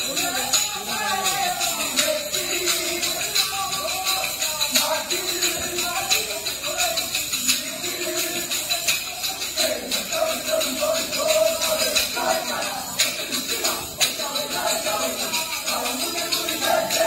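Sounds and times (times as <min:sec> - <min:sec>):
group singing folk song: 0:00.0 - 0:17.0.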